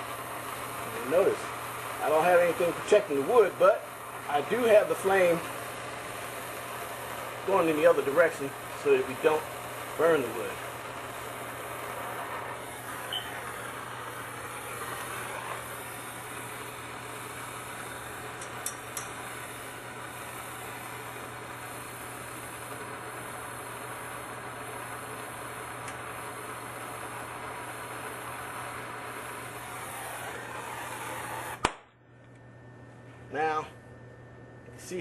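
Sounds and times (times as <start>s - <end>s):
gas torch flame hissing: 0.0s - 31.8s.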